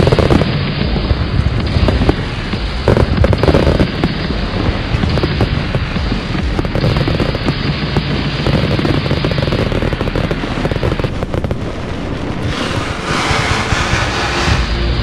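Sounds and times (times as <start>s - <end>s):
fireworks bursting and crackling: 0.0s - 15.0s
fireworks hiss: 0.0s - 15.0s.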